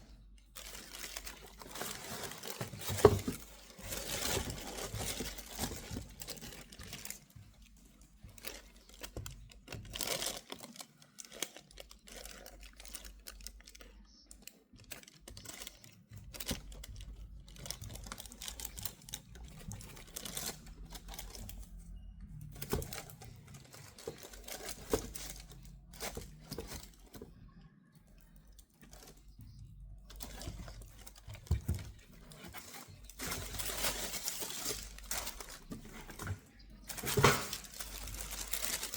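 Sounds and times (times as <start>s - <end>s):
paper wrapping rustling: 0.0s - 27.3s, 28.2s - 38.9s.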